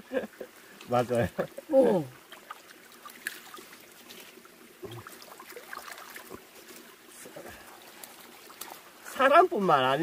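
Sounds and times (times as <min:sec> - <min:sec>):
stream trickling: 0:00.0 - 0:10.0
splashes and drips: 0:00.4 - 0:10.0.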